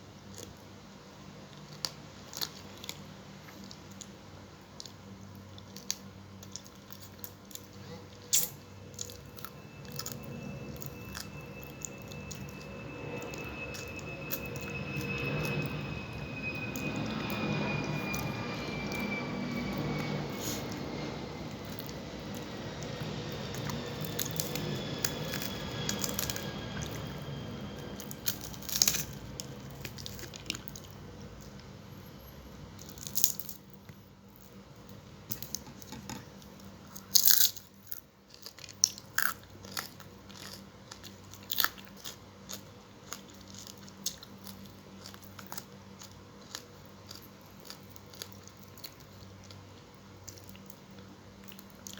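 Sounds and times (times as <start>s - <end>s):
faint hum with high whine: 0.0s - 51.9s
person chewing food: 1.6s - 16.0s, 16.6s - 31.7s, 36.8s - 51.9s.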